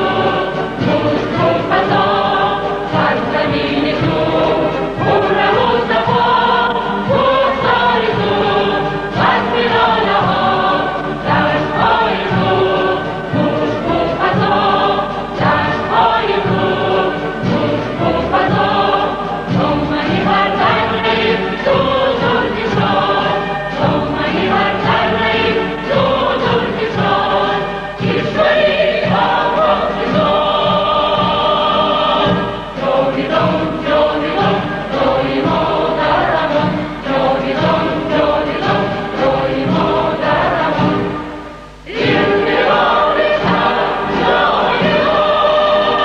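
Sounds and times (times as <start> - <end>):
choir singing: 0.0 - 46.0
orchestra playing: 0.0 - 46.0.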